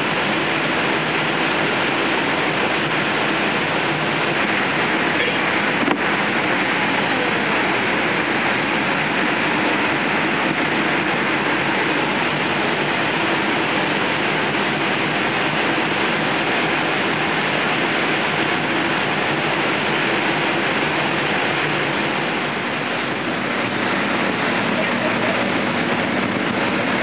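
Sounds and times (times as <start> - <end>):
air blowers rushing: 0.0 - 27.0.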